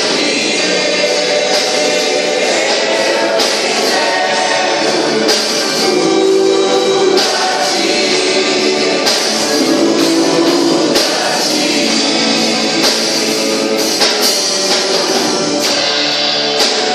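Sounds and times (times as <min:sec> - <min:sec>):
gospel worship song with band: 0:00.0 - 0:16.9.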